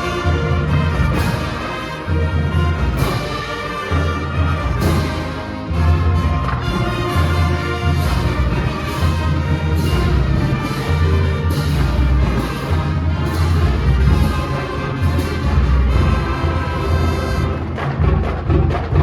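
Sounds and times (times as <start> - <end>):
brass melody: 0.0 - 19.0
marching band playing: 0.0 - 19.0.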